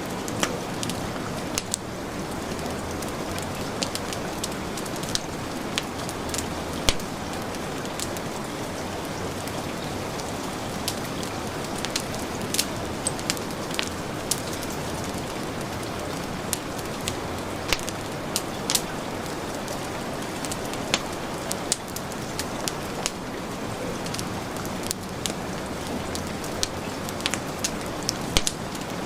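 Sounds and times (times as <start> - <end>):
heavy rain: 0.0 - 29.0
wood fire crackling: 0.0 - 29.0.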